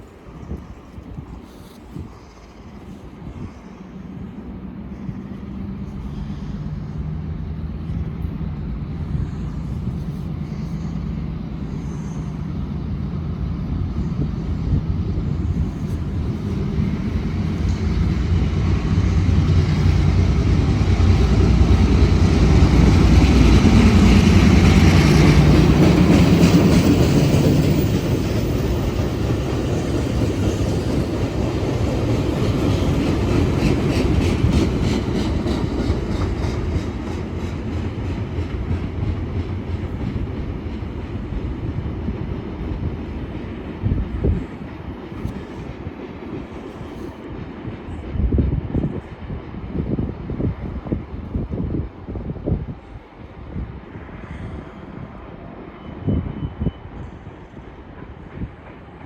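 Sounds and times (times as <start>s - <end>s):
train passing close by: 0.0s - 59.0s.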